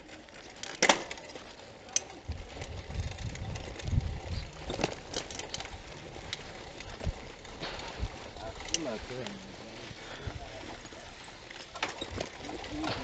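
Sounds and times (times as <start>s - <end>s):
bicycle rattling over bumps: 0.0s - 13.0s.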